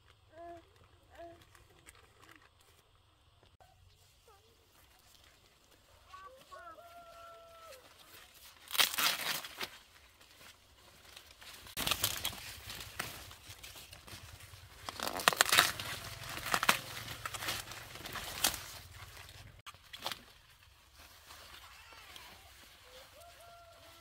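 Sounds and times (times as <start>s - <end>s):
dry corn leaves rustling and tearing: 0.0s - 3.2s, 3.9s - 24.0s.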